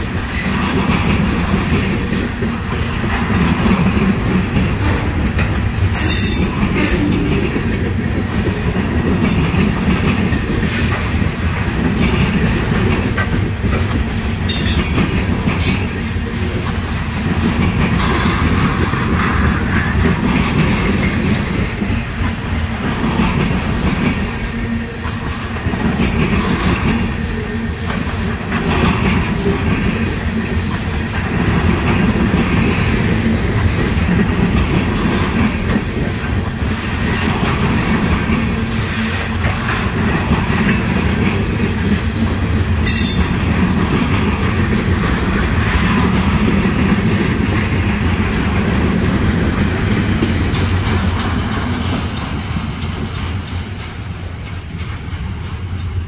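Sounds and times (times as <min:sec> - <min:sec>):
steel wheels rolling on rails: 0:00.0 - 0:56.0.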